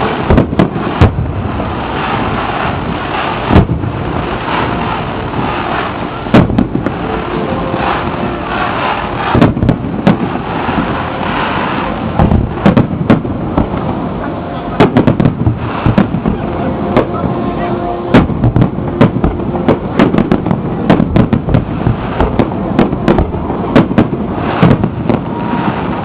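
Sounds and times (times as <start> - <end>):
fireworks bangs: 0.0 - 26.0
rumbling background noise: 0.0 - 26.0.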